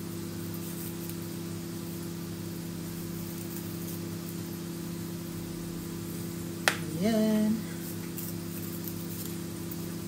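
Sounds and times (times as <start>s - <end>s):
machine hum with hiss: 0.0s - 10.0s.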